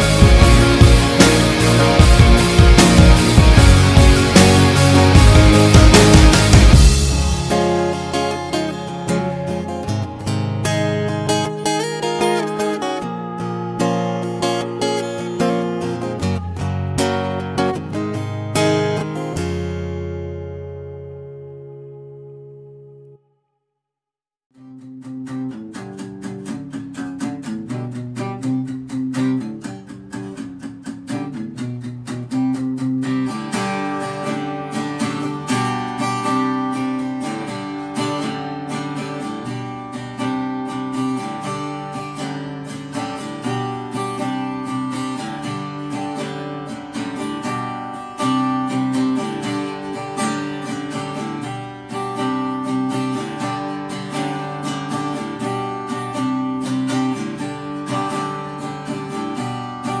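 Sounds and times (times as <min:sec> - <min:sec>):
music with strummed guitar: 0:00.0 - 0:23.3, 0:24.5 - 1:00.0.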